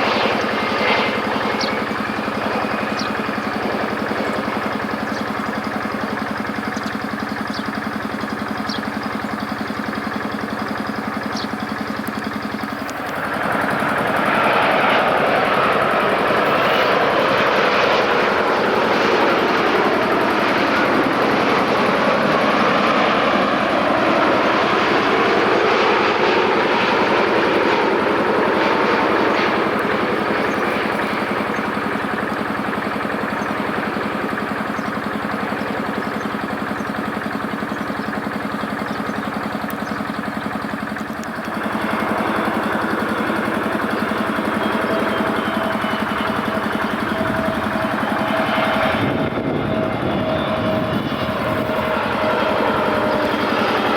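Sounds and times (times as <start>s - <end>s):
jet airliner engines humming: 0.0s - 53.9s.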